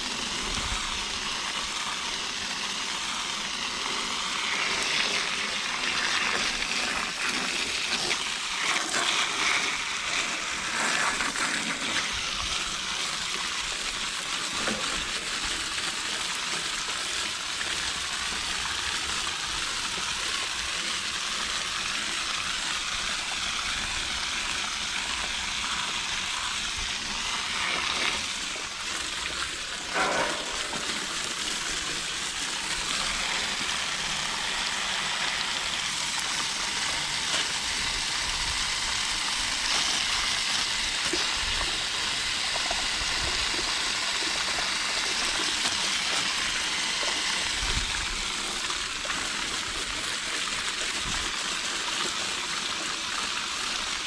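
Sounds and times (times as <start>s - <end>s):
hose water spattering on metal fins: 0.4s - 50.8s.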